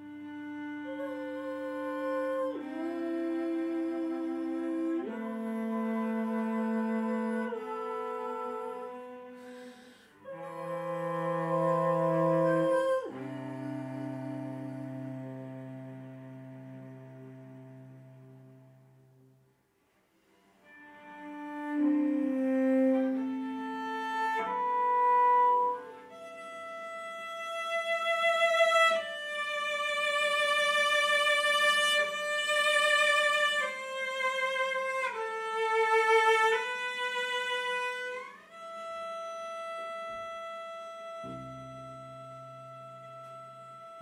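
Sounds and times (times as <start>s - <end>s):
bowed cello melody: 0.0s - 19.5s, 20.4s - 44.0s.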